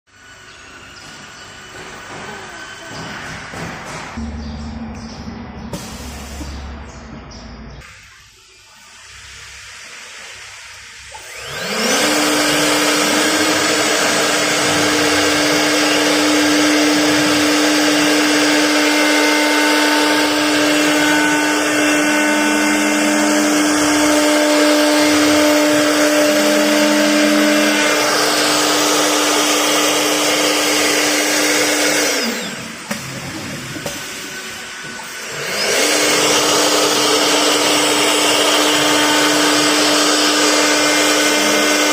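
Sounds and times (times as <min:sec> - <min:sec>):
router spindle whining: 0:00.1 - 0:03.6, 0:07.9 - 0:41.9.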